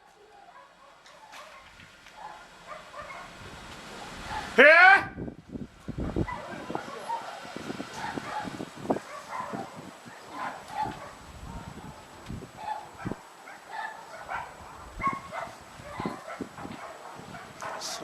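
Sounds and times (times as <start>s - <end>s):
wind buffeting microphone: 1.4s - 18.0s.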